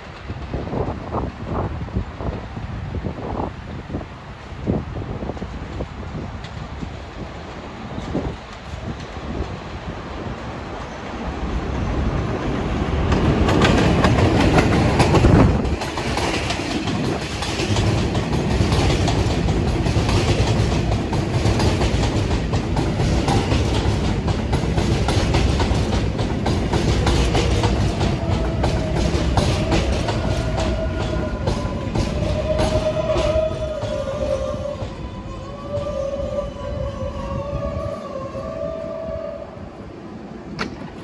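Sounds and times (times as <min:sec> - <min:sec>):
subway train wheels clicking: 0:00.0 - 0:41.0.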